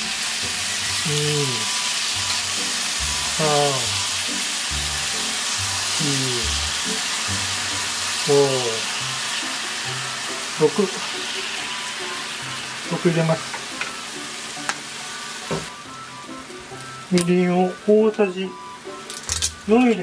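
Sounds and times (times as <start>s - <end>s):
background music with low bass: 0.0s - 20.0s
chicken wings sizzling in pan: 0.0s - 20.0s.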